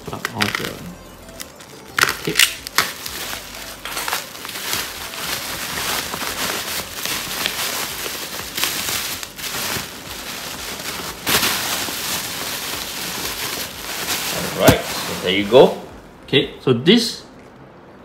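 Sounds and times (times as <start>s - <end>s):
bubble wrap crinkling: 0.0s - 16.1s.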